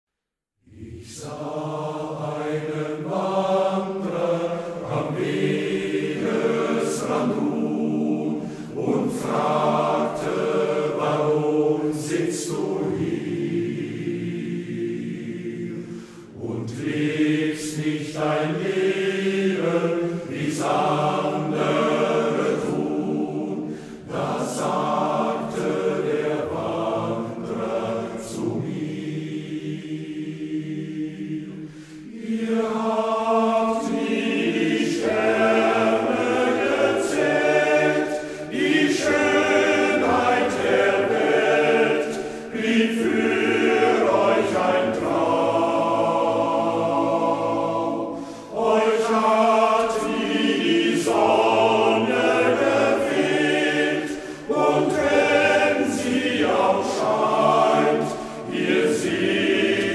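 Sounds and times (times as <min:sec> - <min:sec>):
male choir singing in harmony: 0:00.6 - 0:59.9.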